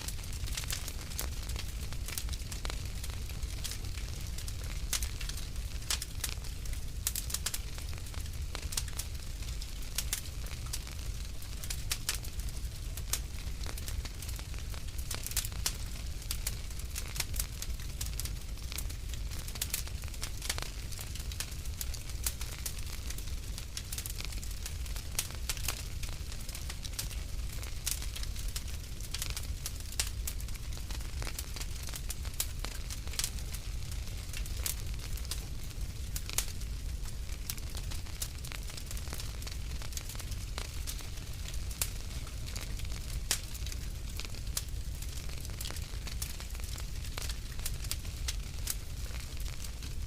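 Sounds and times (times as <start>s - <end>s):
fire crackling and popping: 0.0s - 50.0s
low rumble of fire: 0.0s - 50.0s.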